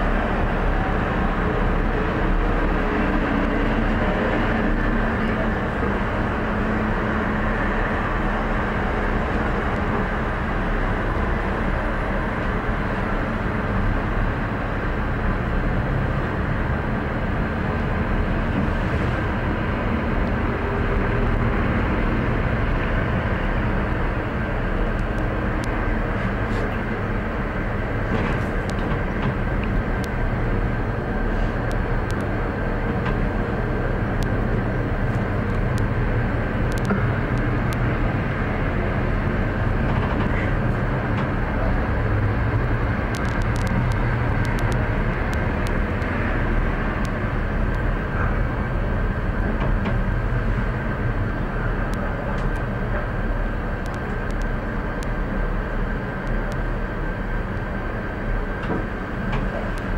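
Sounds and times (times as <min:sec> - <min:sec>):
cable car cabin rumble: 0:00.0 - 0:59.9.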